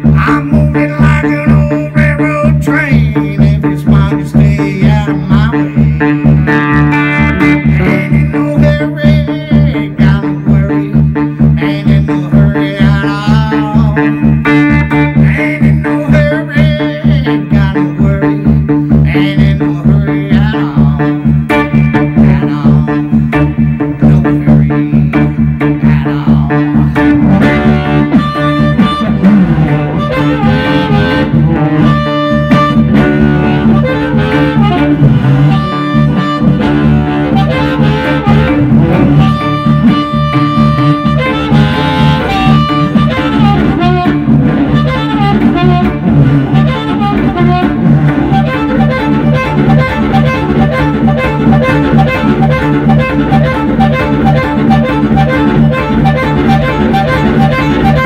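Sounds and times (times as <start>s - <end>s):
amplified harmonica: 0.0s - 58.0s
rhythmic electric guitar: 0.0s - 58.0s.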